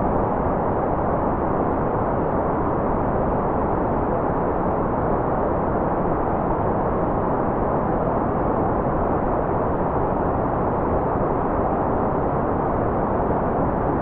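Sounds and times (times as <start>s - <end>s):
muffled white noise: 0.0s - 14.0s.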